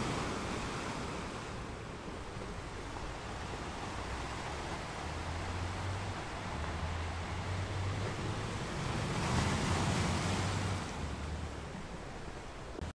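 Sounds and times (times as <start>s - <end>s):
sea surf breaking on rocks: 0.0s - 12.8s.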